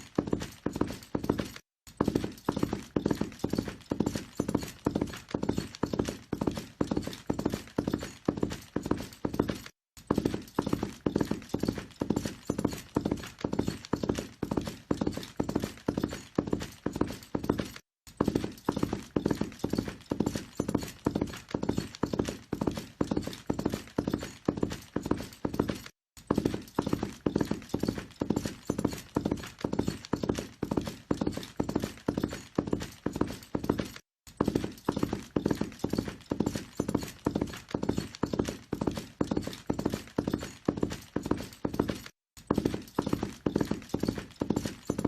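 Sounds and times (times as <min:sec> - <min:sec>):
horse hoofbeats galloping: 0:00.0 - 0:45.0.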